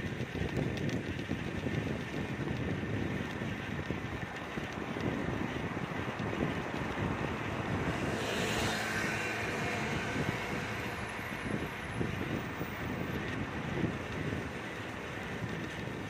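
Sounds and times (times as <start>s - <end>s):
road noise: 0.0s - 16.0s
wind rumbling on microphone: 0.0s - 16.0s.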